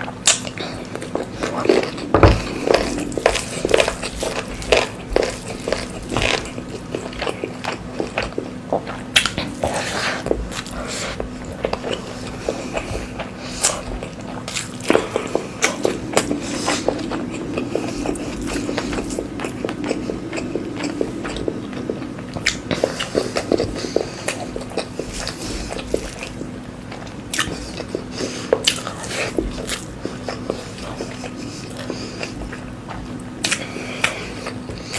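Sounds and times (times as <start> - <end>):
close chewing and crunching: 0.0 - 34.9.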